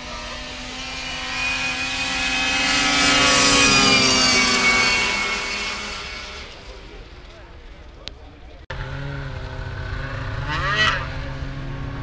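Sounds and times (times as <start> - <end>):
snowmobiles racing past: 0.0 - 7.5, 8.8 - 12.0.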